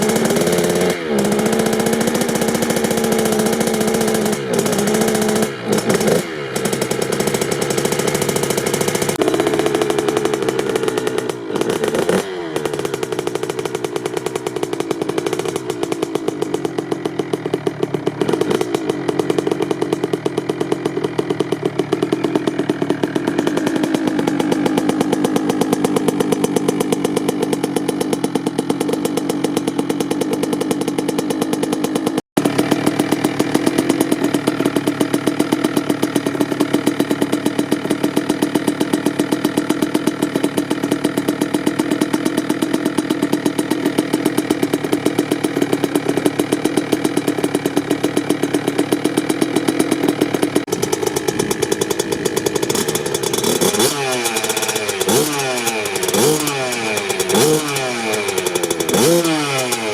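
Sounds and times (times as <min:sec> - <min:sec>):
two-stroke engine idling: 0:00.0 - 0:59.9.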